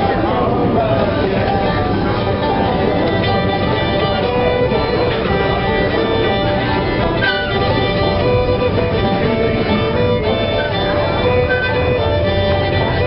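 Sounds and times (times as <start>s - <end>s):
fiddle-led bluegrass music: 0.0s - 13.0s.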